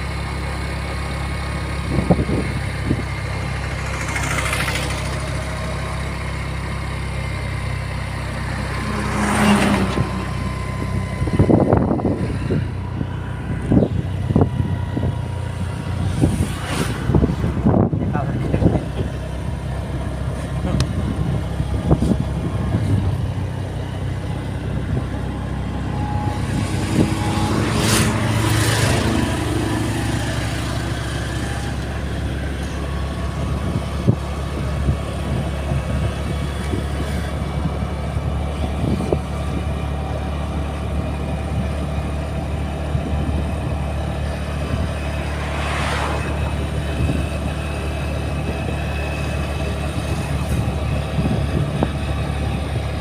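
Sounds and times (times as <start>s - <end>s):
engine and road rumble: 0.0s - 53.0s
vehicle passing by: 1.0s - 35.5s, 42.4s - 51.5s.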